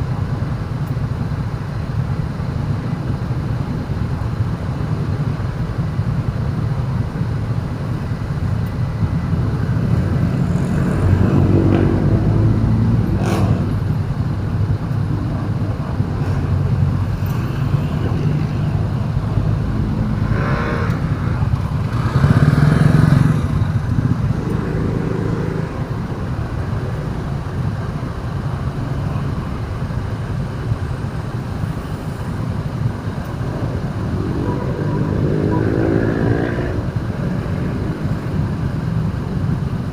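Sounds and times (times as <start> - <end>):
road traffic engine rumble: 0.0 - 39.9
motorcycles passing: 0.8 - 39.9.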